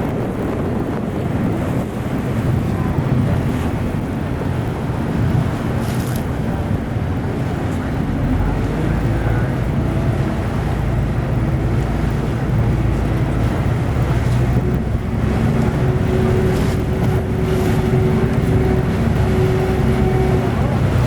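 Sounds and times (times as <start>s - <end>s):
ferry engine running: 0.0s - 21.0s
water and wind noise: 0.0s - 21.0s.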